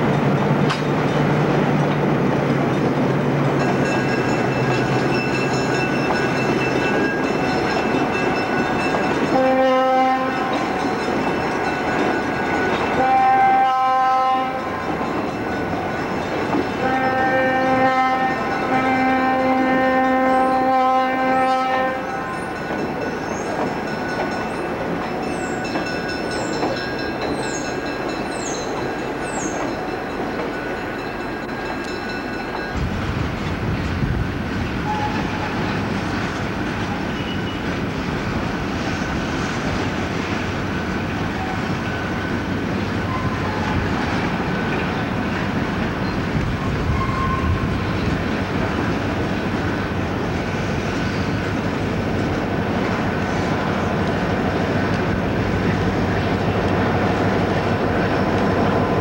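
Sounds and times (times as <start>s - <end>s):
diesel freight train passing: 0.0s - 59.0s
diesel locomotive whine: 0.0s - 59.0s
wheels clattering on rails: 0.0s - 59.0s.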